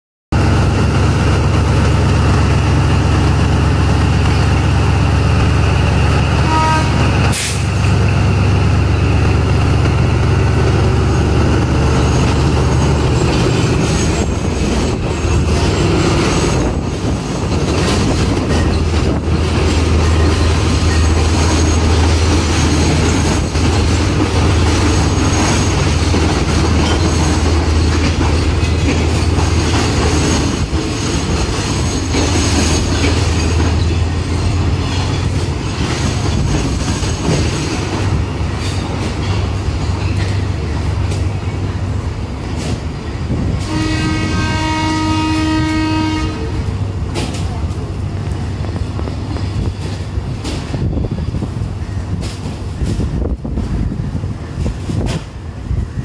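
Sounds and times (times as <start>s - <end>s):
diesel locomotive engine droning: 0.3s - 56.0s
train wheels rumbling on rails: 0.3s - 56.0s.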